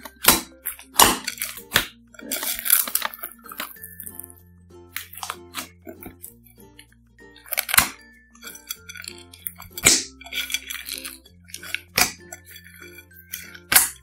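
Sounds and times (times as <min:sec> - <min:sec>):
background music with bass line: 0:00.0 - 0:14.0
slime squishing with clicks and pops: 0:00.0 - 0:14.0.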